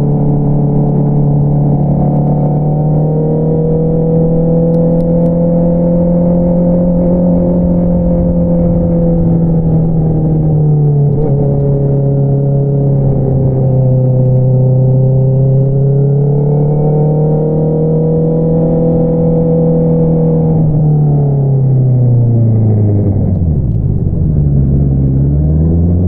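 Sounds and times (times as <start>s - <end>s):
motorcycle engine running: 0.0s - 25.4s.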